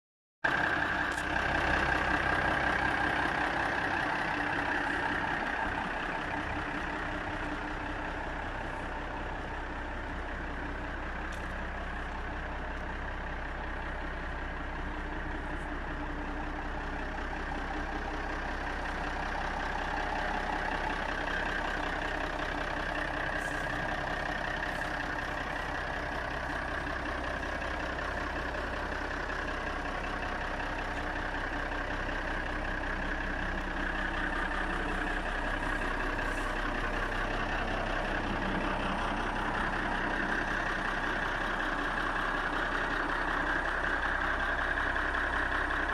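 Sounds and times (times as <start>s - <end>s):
tractor diesel engine idling: 0.4s - 45.9s.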